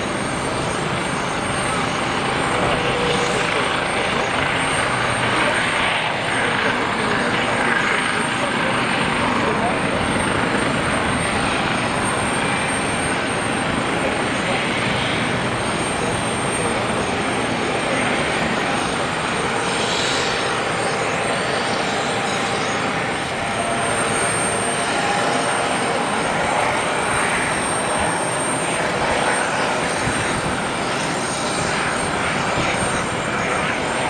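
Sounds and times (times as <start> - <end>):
helicopter rotor and turbine: 0.0 - 34.0.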